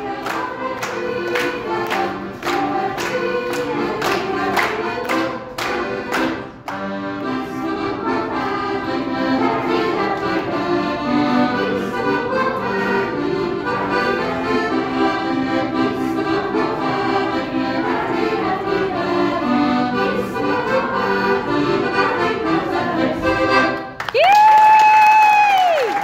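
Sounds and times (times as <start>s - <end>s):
accordion folk dance tune: 0.0s - 24.1s.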